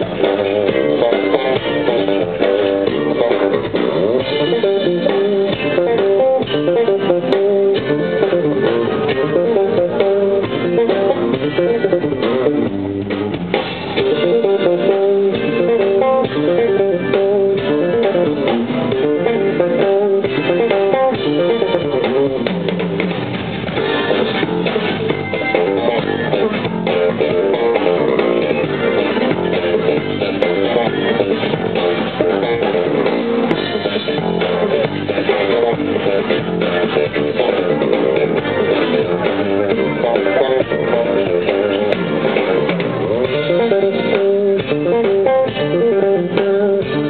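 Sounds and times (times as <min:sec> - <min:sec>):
drum kit: 0:00.0 - 0:47.0
electric bass guitar: 0:00.0 - 0:47.0.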